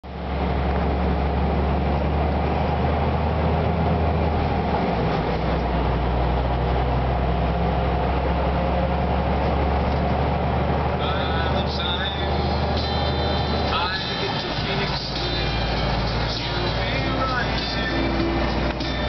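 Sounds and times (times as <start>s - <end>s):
tyre and road noise: 0.0s - 19.0s
vehicle engine droning: 0.0s - 19.0s.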